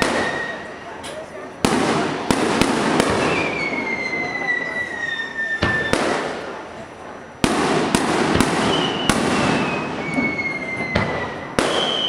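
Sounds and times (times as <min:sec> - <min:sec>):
fireworks bangs: 0:00.0 - 0:12.0
fireworks whistling: 0:00.0 - 0:12.0.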